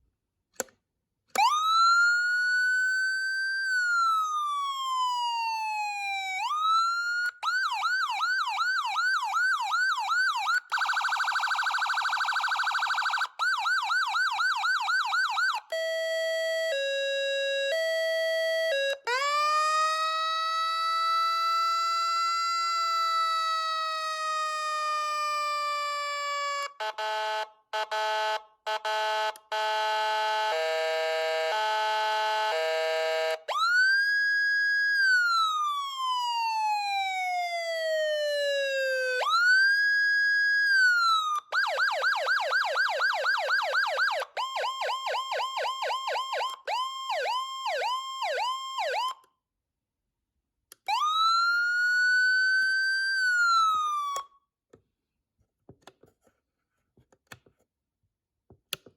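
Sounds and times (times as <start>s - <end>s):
electronic siren: 1.4s - 49.2s, 50.9s - 54.3s.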